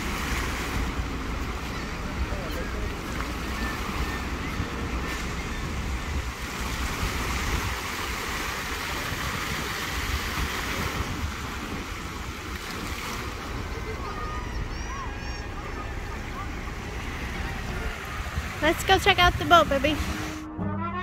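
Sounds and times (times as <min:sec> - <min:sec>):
fountain jets splashing into pool: 0:00.0 - 0:20.1
wind buffeting microphone: 0:00.0 - 0:20.4.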